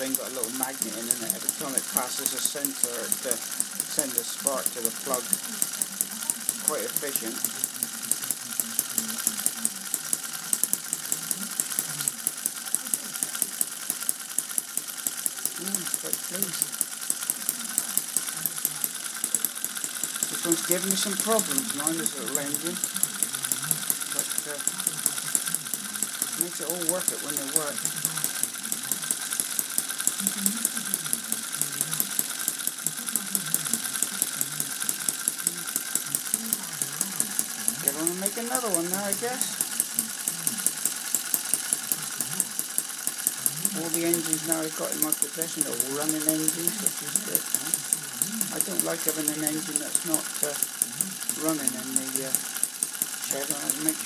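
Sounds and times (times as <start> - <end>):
small engine popping: 0.0 - 54.0.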